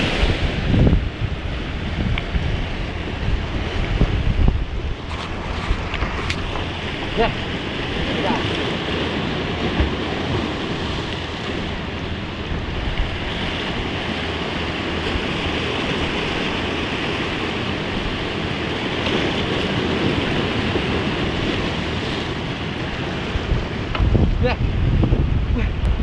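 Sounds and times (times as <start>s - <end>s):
waves breaking on rocks: 0.0s - 26.0s
wind buffeting microphone: 0.0s - 26.0s.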